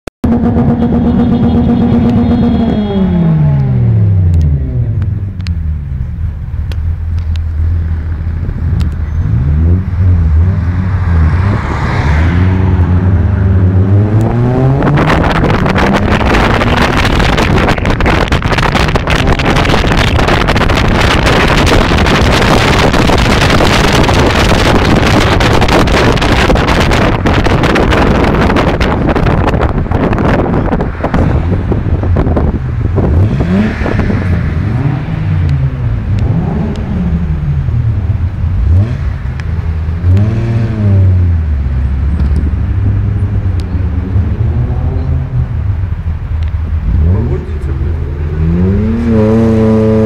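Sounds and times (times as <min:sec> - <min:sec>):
car engine: 0:00.2 - 0:50.0
wind and road noise: 0:00.2 - 0:50.0.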